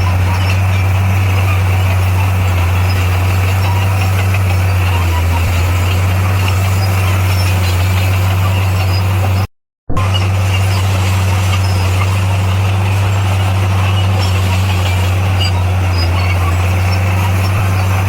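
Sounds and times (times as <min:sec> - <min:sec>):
heavy diesel engine drone: 0:00.0 - 0:18.0.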